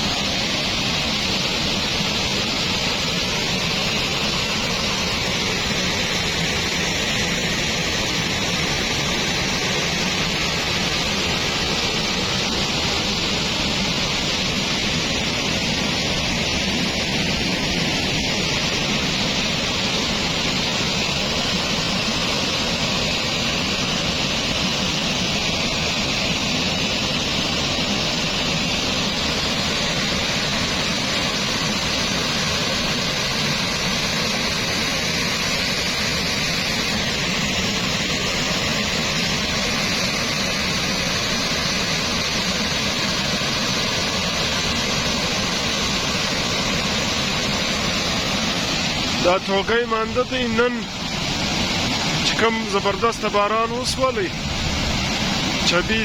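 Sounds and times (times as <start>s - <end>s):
floodwater rushing down stream: 0.0s - 56.0s.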